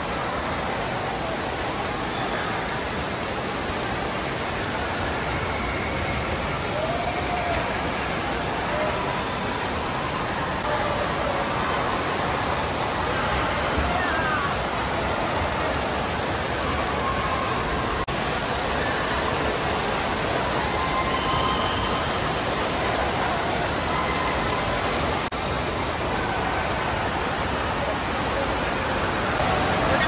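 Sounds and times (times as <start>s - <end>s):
fountain jets spraying water: 0.0s - 30.0s.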